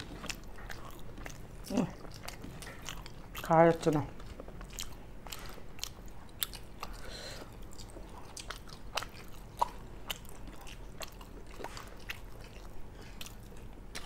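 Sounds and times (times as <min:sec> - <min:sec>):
people chewing food: 0:00.0 - 0:14.0.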